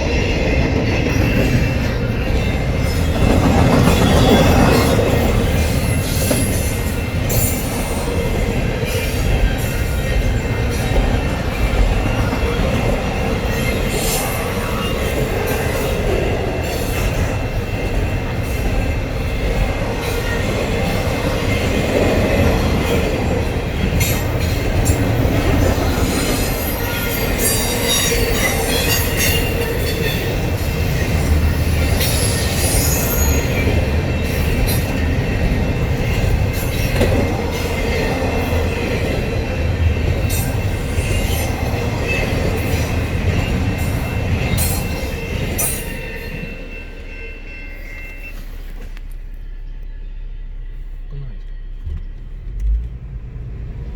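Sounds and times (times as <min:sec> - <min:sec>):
high wheel squeal: 0:00.0 - 0:51.9
train wheels rumbling on rails: 0:00.0 - 0:53.9.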